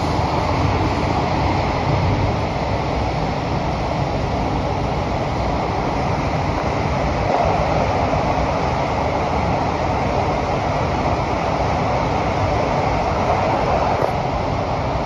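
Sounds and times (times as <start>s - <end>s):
metro train rumble and hiss: 0.0s - 15.0s.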